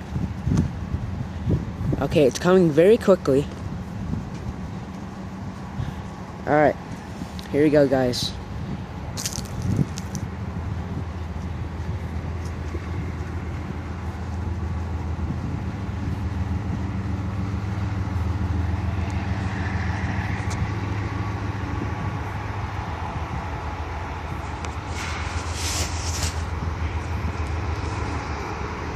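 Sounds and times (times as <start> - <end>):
diesel locomotive rumbling past: 0.0 - 9.2, 10.1 - 28.9.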